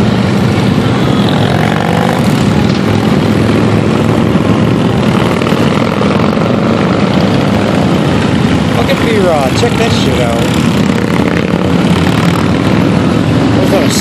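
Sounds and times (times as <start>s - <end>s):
motorcycles riding past: 0.0s - 14.0s.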